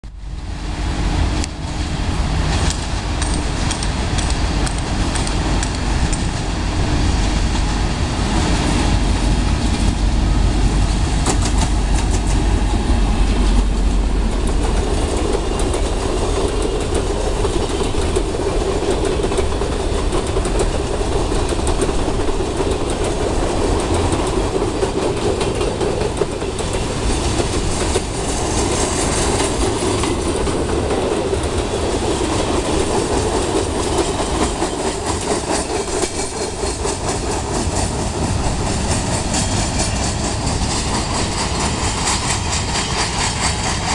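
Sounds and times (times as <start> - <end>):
freight train passing: 0.0 - 43.9.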